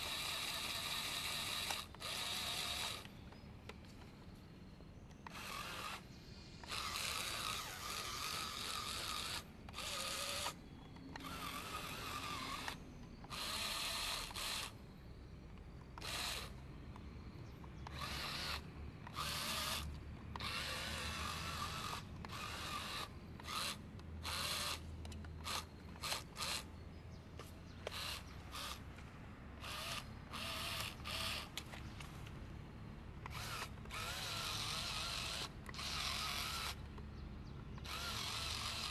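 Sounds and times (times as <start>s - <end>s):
small electric motor whirring: 0.0s - 3.5s, 5.1s - 15.0s, 15.8s - 26.8s, 27.4s - 29.0s, 29.6s - 32.0s, 33.2s - 37.0s, 37.7s - 38.9s.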